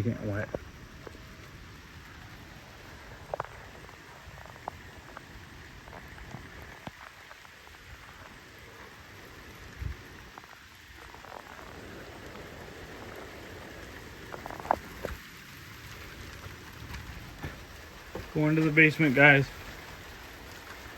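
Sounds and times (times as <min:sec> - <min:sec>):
steady rain: 0:00.0 - 0:20.9.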